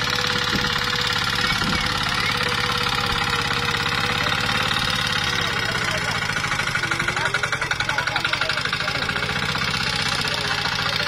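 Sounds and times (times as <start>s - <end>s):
tiller engine chugging: 0.0s - 11.0s
tines working through dry soil: 0.0s - 11.0s.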